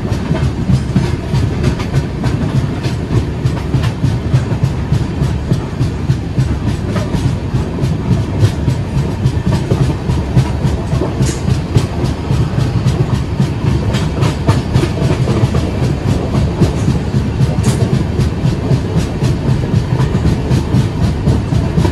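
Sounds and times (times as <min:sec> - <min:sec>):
train wheels rumbling on track: 0:00.0 - 0:21.9
wheels clicking over rail joints: 0:00.0 - 0:21.9.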